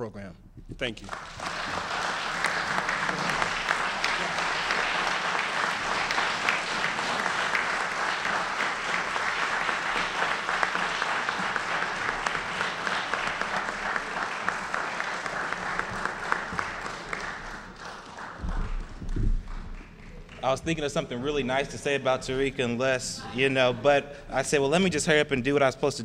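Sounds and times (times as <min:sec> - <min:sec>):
audience applauding: 0:00.8 - 0:22.5.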